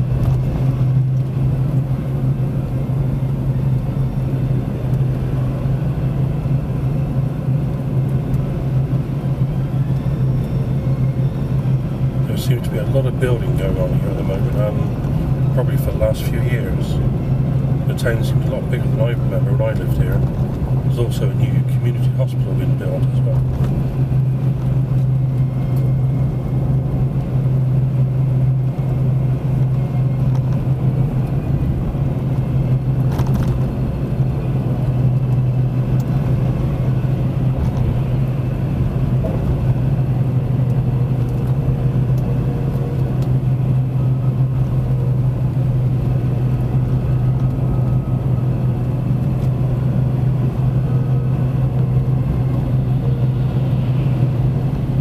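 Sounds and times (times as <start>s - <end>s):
car engine and tyre drone: 0.0s - 55.0s.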